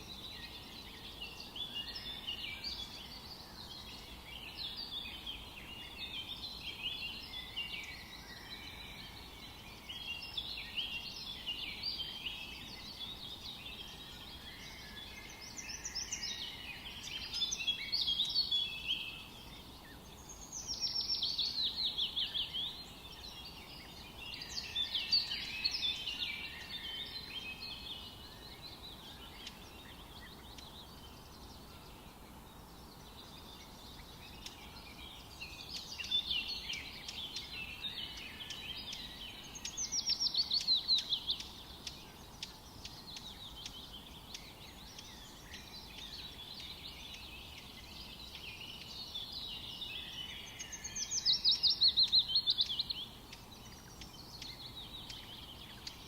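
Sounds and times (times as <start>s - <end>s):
birds singing: 0.0s - 56.0s
faint steady hiss: 0.0s - 56.0s.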